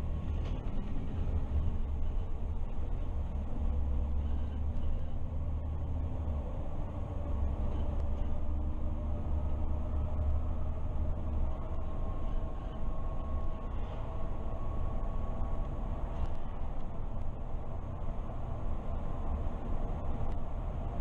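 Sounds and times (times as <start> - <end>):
bus engine rumbling: 0.0 - 21.0
faint whine: 0.0 - 21.0
road noise: 0.0 - 21.0.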